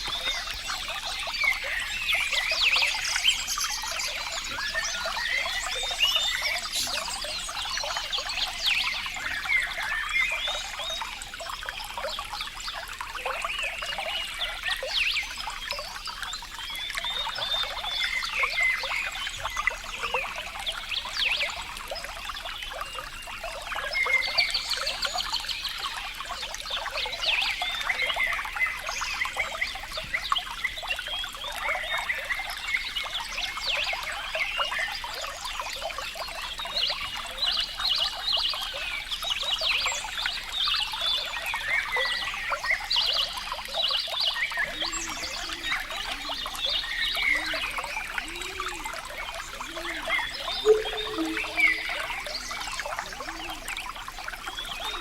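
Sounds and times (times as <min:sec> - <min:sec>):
stream trickling and splashing: 0:00.0 - 0:55.0.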